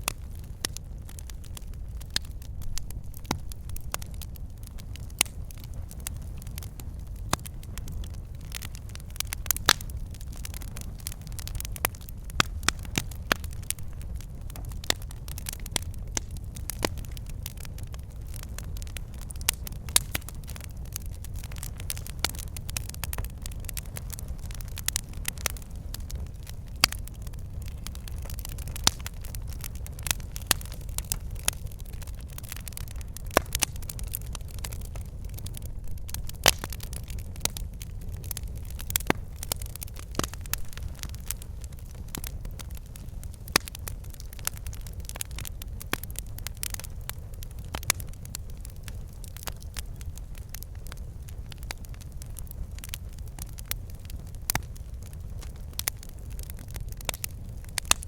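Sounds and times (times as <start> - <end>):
burning logs popping: 0.0 - 58.0
low rumble of flames: 0.0 - 58.0
wood fire crackling: 0.0 - 58.0.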